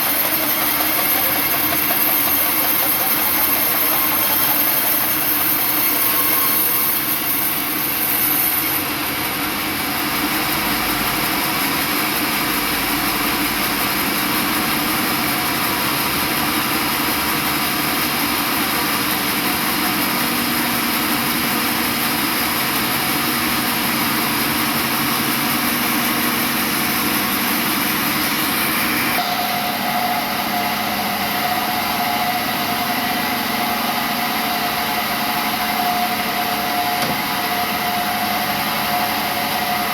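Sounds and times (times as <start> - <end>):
steady machine whine: 0.0 - 11.3, 15.1 - 39.9
sawmill machinery running: 0.0 - 39.9.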